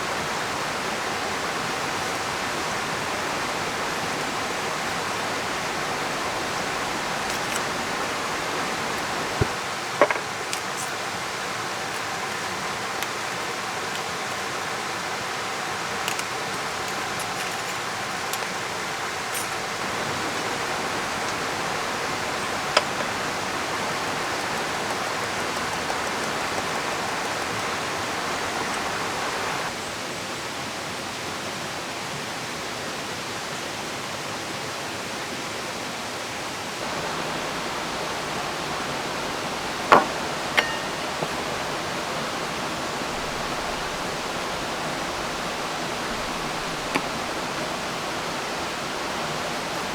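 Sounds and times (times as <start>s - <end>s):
falling rain: 0.0s - 30.1s, 36.6s - 49.9s
mountain river rushing: 0.0s - 49.9s.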